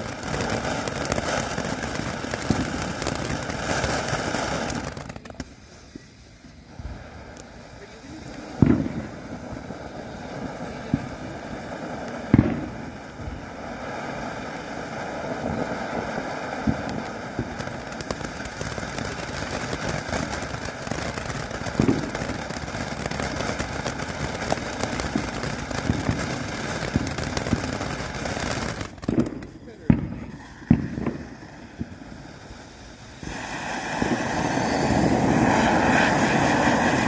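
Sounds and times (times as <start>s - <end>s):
firework crackles: 0.0s - 37.0s
firework fountain hissing: 0.0s - 37.0s.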